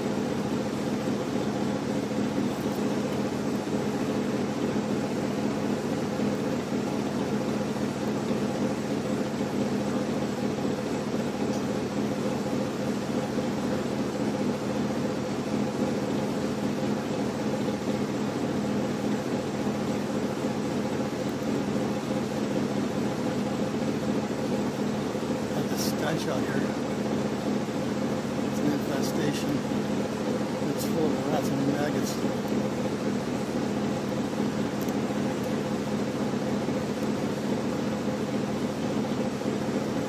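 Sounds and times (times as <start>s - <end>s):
air handling unit hum: 0.0s - 40.0s.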